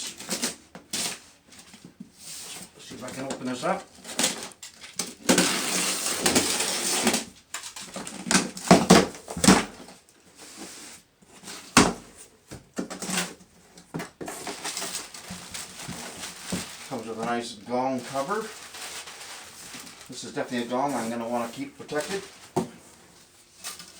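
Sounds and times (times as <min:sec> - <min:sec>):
packaging knocks and rustles: 0:03.1 - 0:10.1, 0:11.4 - 0:23.9.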